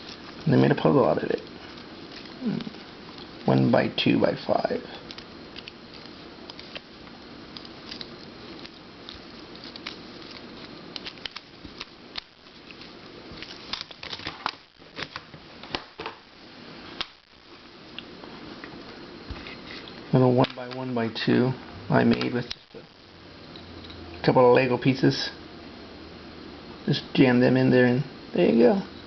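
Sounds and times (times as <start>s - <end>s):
steady low hiss: 0.0s - 29.0s.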